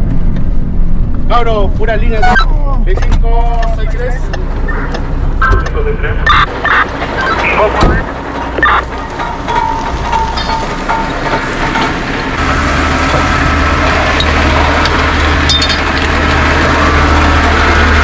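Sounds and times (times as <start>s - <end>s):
heavy engine drone: 0.0s - 18.0s.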